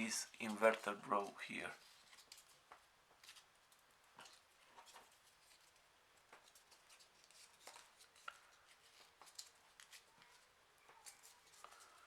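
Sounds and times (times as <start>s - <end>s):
paper rustling and clicking: 1.8s - 12.0s.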